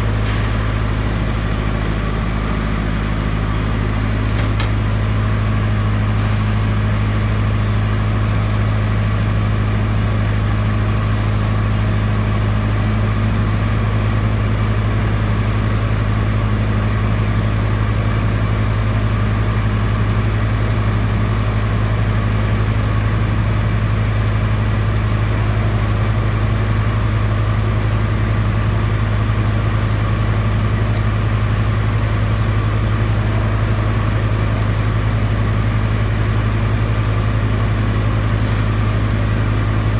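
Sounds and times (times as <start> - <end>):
diesel generator engine humming: 0.0 - 39.9.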